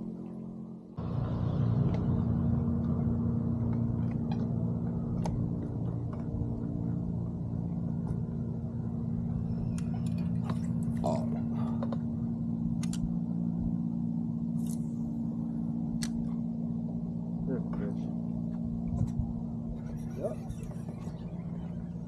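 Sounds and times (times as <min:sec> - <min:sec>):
boat motor humming: 0:00.0 - 0:22.0.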